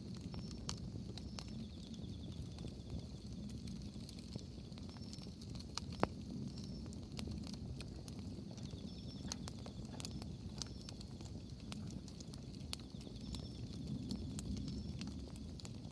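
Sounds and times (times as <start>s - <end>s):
bonfire flames rustling: 0.0s - 15.9s
firewood crackling and snapping: 0.0s - 15.9s.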